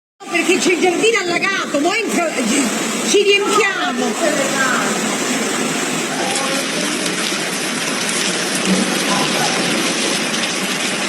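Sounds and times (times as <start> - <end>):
water rushing and pouring: 0.2 - 11.0.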